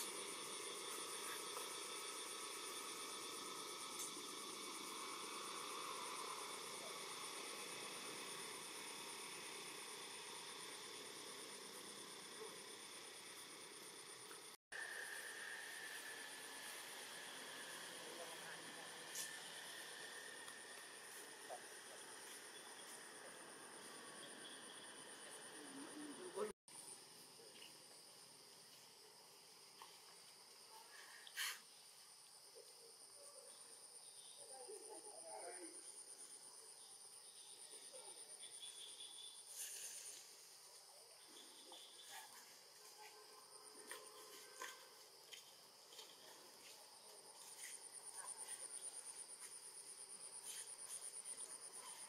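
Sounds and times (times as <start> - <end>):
faint insect trill: 0.0 - 52.0
forest ambience hiss: 0.0 - 52.0.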